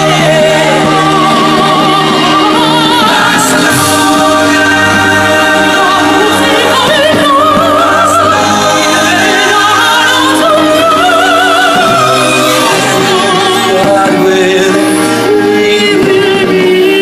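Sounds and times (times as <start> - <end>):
operatic singing with vibrato: 0.0 - 17.0.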